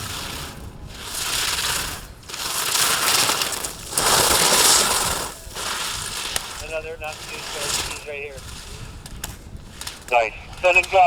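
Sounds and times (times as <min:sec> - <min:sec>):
skis scraping on hard snow: 0:00.0 - 0:11.0.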